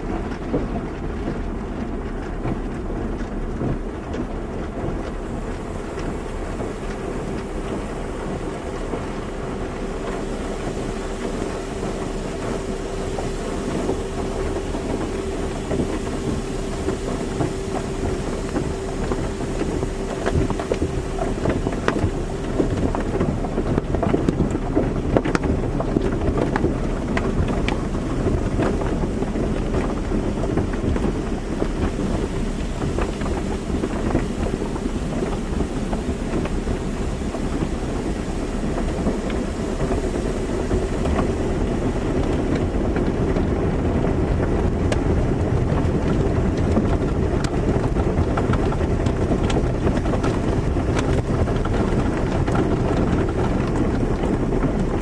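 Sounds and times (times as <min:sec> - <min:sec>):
machine hum: 0:00.0 - 0:55.0
water jets spraying on car: 0:00.0 - 0:55.0.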